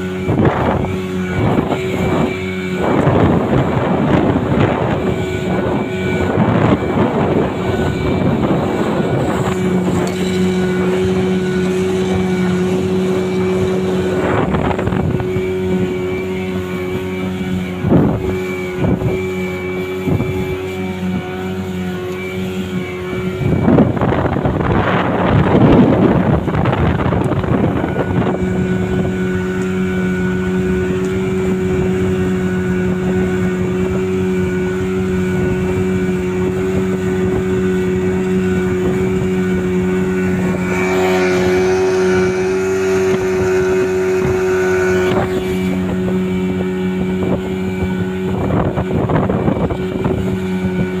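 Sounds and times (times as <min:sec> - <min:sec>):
boat engine running: 0:00.0 - 0:51.0
rushing water: 0:00.0 - 0:51.0
wind: 0:00.0 - 0:51.0.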